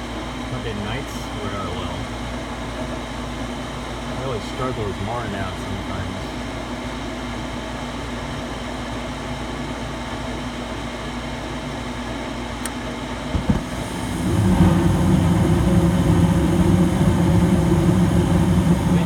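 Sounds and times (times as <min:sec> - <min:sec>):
furnace fan humming: 0:00.0 - 0:19.0
gas burner roar: 0:00.0 - 0:19.0.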